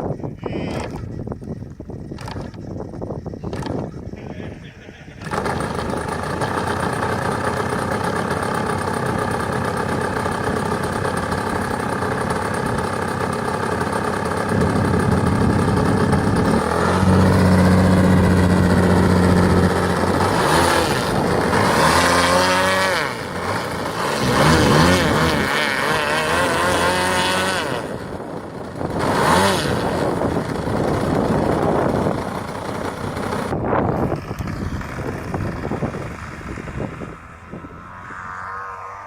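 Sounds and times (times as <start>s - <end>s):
model plane engine running: 0.4s - 39.0s.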